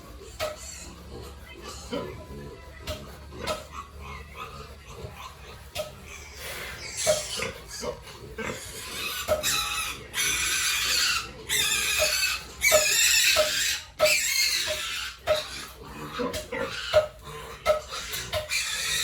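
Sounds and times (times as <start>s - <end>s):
pigs squealing: 0.0s - 19.0s.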